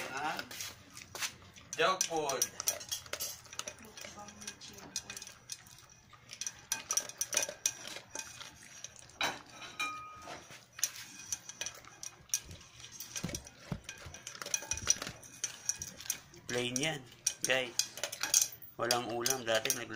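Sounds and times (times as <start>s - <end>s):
dog crunchy chewing: 0.0s - 9.5s, 10.4s - 19.9s
kibble rattling in metal pot: 1.6s - 19.9s.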